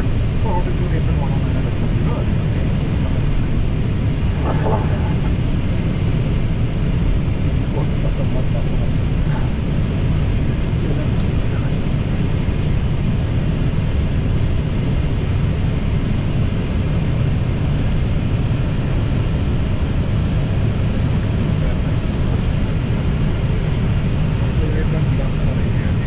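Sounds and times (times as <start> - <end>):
jet engines idling: 0.0 - 26.0.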